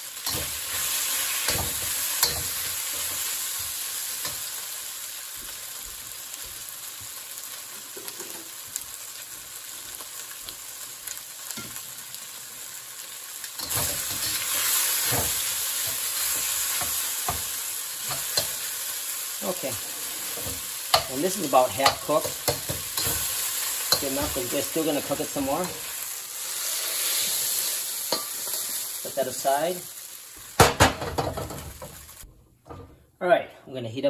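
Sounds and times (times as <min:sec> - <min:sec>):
chicken sizzling in oil: 0:00.0 - 0:32.3.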